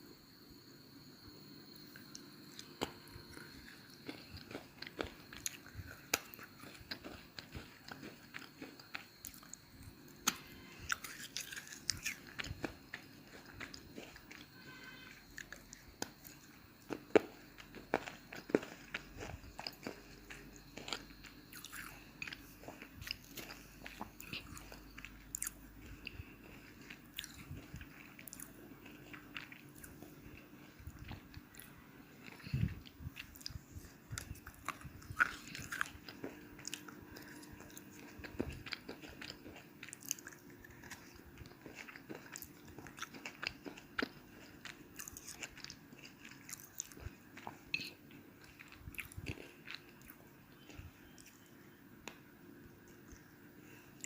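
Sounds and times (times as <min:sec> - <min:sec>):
pencil being chewed crunching: 0:02.5 - 0:09.6, 0:10.2 - 0:52.2.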